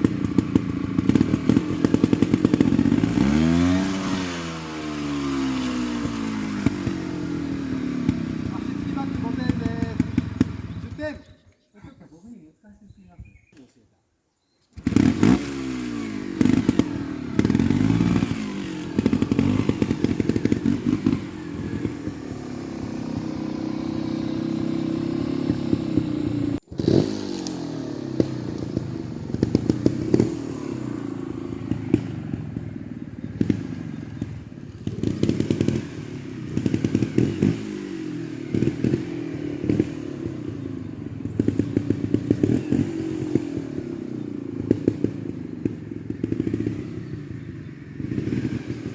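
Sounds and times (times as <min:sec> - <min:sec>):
motorcycle engine revving: 0:00.0 - 0:11.5, 0:14.7 - 0:48.9.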